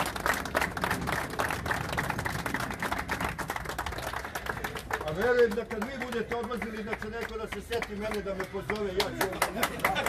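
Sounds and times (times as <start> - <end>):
small group applauding: 0.0 - 10.0.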